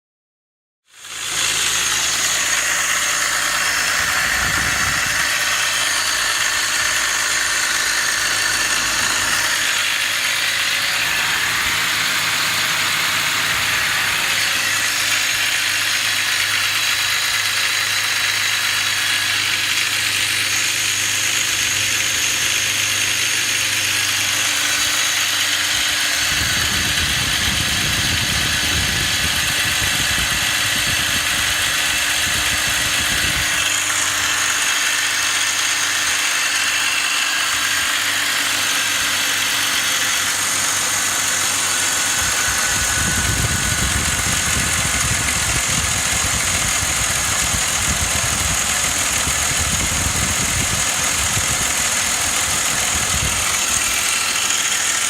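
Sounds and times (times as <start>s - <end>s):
car engine idling: 0.9s - 55.0s.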